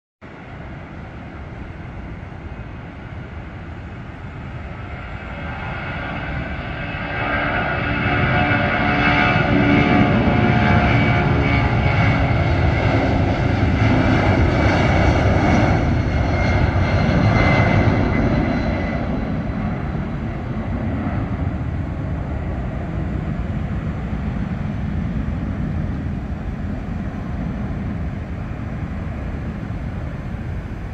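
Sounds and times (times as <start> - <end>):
jet engines roaring at takeoff: 0.3 - 30.9.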